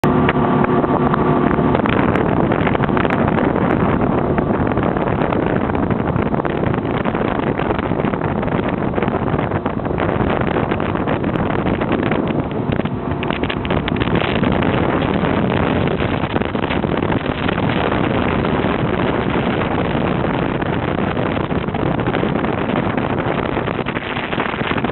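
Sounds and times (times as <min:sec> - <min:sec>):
motorboat engine running: 0:00.0 - 0:24.9
wind buffeting microphone: 0:00.0 - 0:24.9.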